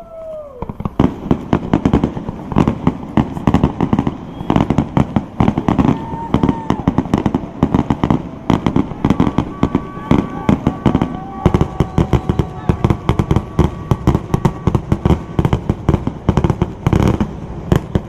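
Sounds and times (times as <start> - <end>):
fireworks banging and crackling: 0.0 - 18.0.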